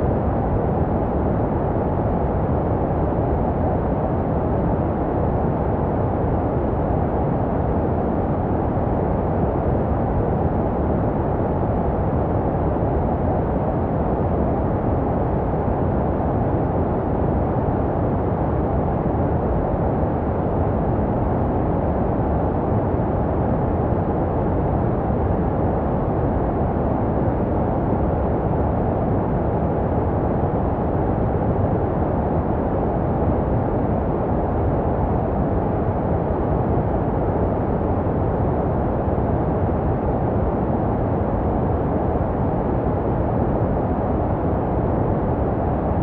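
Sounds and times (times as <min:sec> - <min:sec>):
deep muffled white noise: 0:00.0 - 0:46.0.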